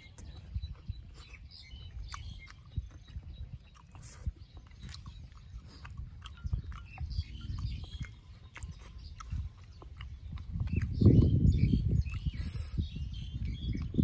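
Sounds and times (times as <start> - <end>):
person chewing with wet smacking: 0.0 - 14.0.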